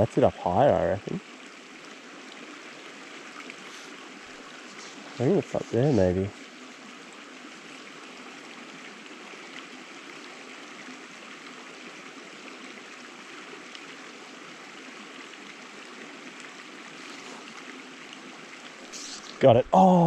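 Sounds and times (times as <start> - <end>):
small stream flowing: 0.0 - 20.0.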